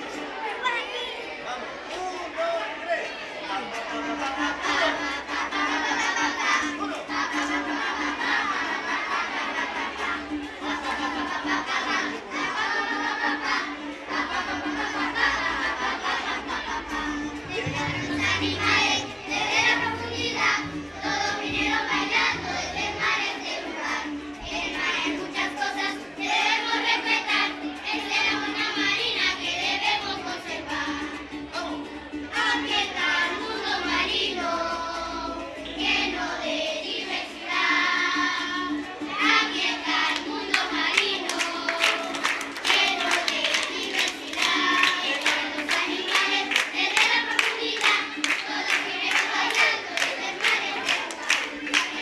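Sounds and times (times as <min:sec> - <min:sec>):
children singing in unison: 0:03.2 - 0:52.0
children clapping in rhythm: 0:03.5 - 0:33.3, 0:37.7 - 0:52.0.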